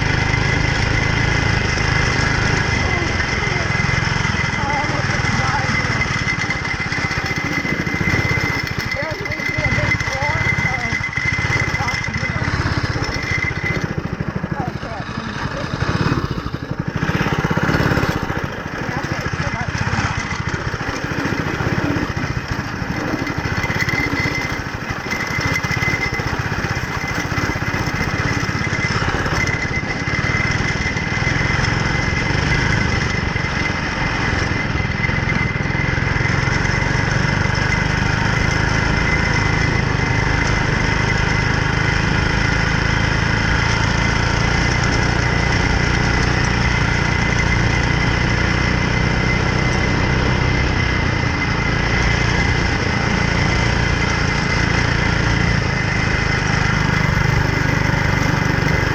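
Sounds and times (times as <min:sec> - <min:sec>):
go-kart engine running: 0:00.0 - 0:58.9.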